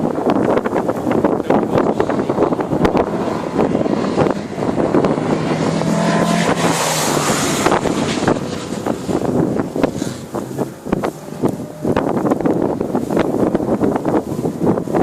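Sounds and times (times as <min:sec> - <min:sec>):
car engine running hard: 0:00.0 - 0:15.0
rush of noise: 0:00.0 - 0:15.0
wind buffeting microphone: 0:00.0 - 0:15.0.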